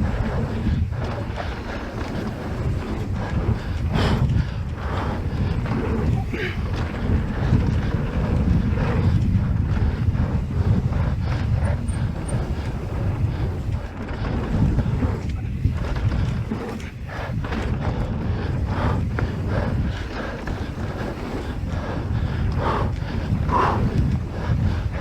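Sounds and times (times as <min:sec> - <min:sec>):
bike knocks and rattles: 0:00.0 - 0:25.0
low rumble: 0:00.0 - 0:25.0
wind buffeting microphone: 0:00.0 - 0:25.0.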